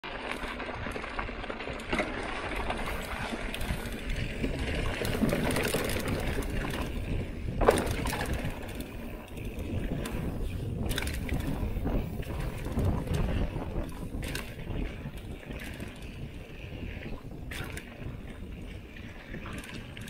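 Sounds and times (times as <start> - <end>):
bike chain and frame rattling: 0.0 - 20.0
bike tyres on dirt: 0.0 - 20.0
wind rumbling on microphone: 0.1 - 20.0.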